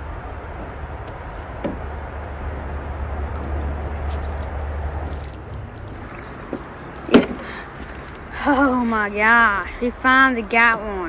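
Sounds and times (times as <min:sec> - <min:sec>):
fish hauled against metal boat: 0:00.0 - 0:09.3
low rumble: 0:00.0 - 0:09.8
water splashing: 0:00.0 - 0:10.0.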